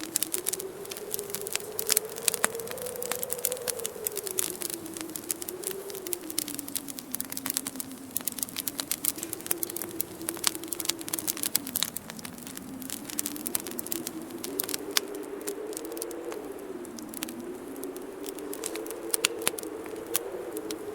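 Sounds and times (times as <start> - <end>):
howling wind: 0.0 - 20.9
wood fire crackling and popping: 0.0 - 20.9.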